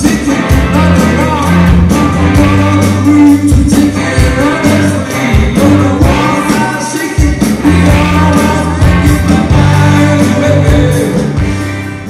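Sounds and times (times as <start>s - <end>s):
person singing: 0.0s - 11.4s
bass line: 0.0s - 12.0s
rock band playing: 0.0s - 12.0s.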